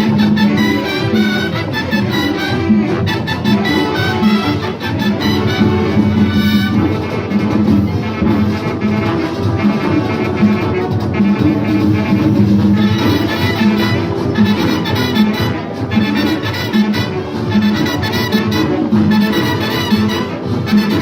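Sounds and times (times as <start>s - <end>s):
big band playing salsa music: 0.0s - 21.0s
trumpets and trombones: 0.0s - 21.0s.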